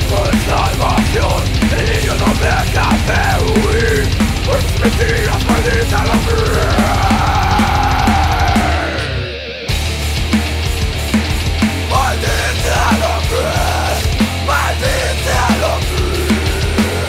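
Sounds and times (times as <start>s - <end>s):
rock music with drum beat: 0.0s - 17.0s.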